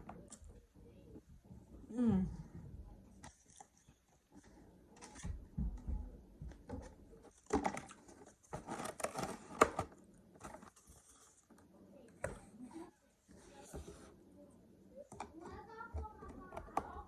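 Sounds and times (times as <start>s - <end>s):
eating and handling noises: 0.0s - 17.0s.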